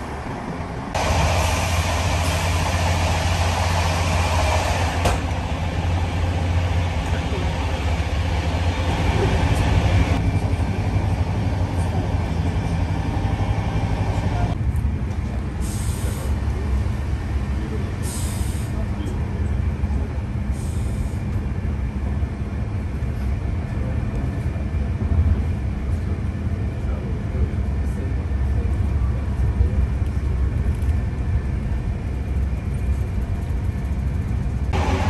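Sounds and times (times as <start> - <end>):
train rumbling on rails: 0.0 - 35.0.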